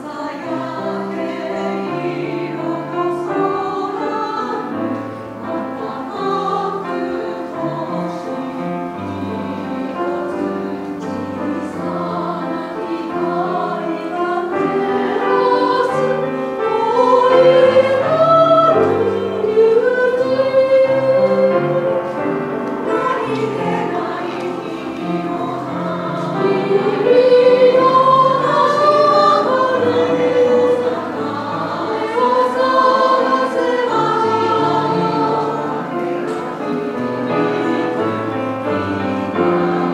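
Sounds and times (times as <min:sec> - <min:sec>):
grand piano accompaniment: 0:00.0 - 0:39.9
women's choir singing: 0:00.0 - 0:39.9.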